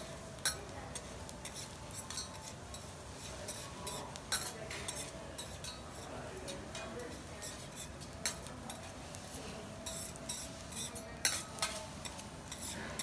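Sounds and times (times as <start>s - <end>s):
faint sizzle: 0.0s - 13.0s
metal spatula scraping griddle: 0.1s - 13.0s.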